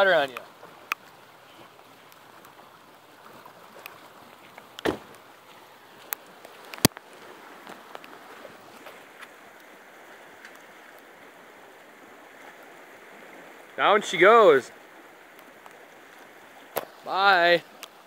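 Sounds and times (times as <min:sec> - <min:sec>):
floodwater rushing in river: 0:00.0 - 0:18.0.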